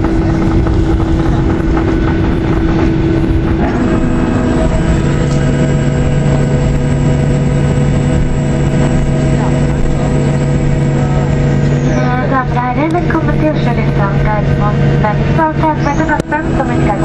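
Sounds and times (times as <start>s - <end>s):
airplane cabin rumble: 0.0s - 17.0s
jet engines humming: 0.0s - 17.0s.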